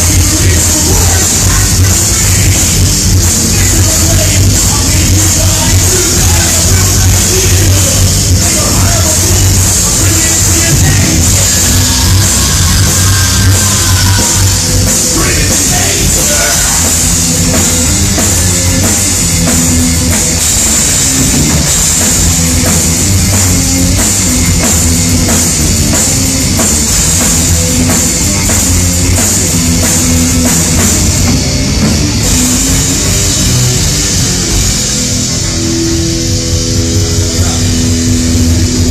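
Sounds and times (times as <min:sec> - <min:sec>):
bass guitar: 0:00.0 - 0:38.9
distorted guitars: 0:00.0 - 0:38.9
drum kit beat: 0:00.0 - 0:38.9.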